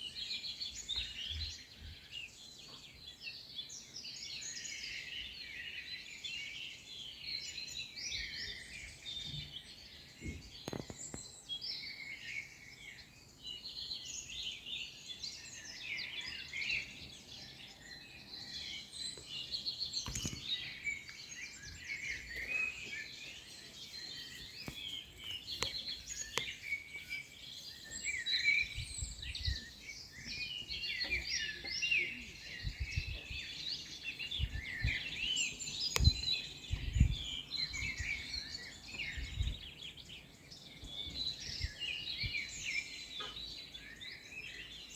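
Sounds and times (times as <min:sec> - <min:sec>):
birds chirping chorus: 0:00.0 - 0:44.9.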